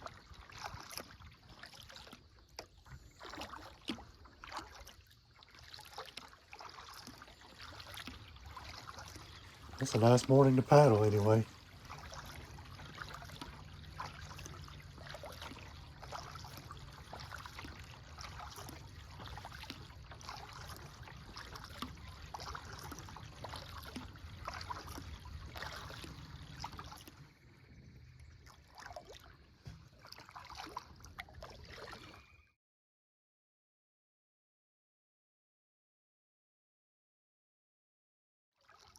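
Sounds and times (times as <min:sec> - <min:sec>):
paddle splashing in water: 0:00.0 - 0:32.4, 0:38.6 - 0:38.9.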